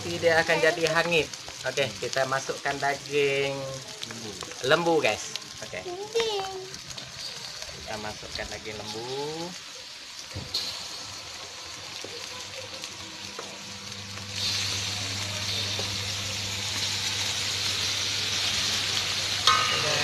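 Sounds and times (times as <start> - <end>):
meat sizzling in a wok: 0.0 - 20.0.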